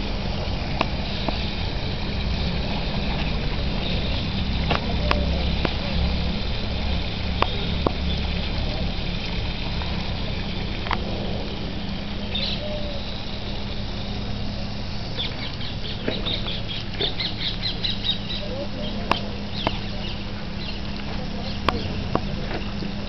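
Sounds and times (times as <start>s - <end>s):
fountain water spraying: 0.0s - 23.0s.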